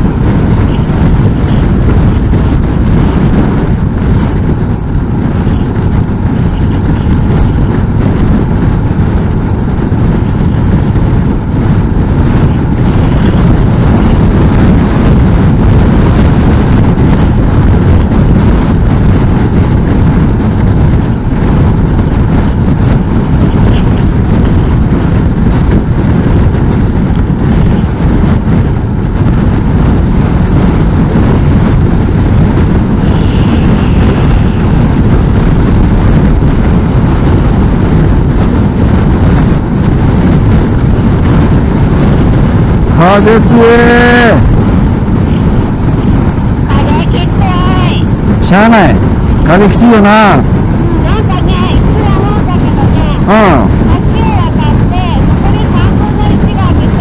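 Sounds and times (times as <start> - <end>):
motorcycle engine and road noise: 0.0 - 57.0
wind rumble on microphone: 0.0 - 57.0.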